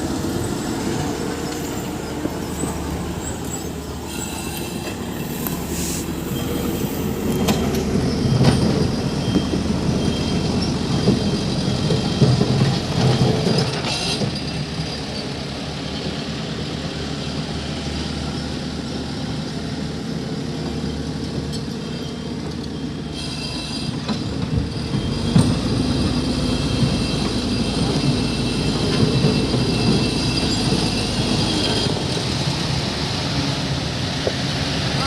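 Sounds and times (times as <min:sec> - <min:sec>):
diesel engine under load: 0:00.0 - 0:35.0.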